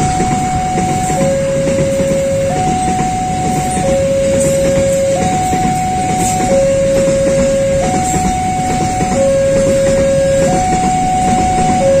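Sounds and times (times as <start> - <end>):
passing train rumble: 0.0 - 12.0
two-tone electronic warning alarm: 0.0 - 12.0.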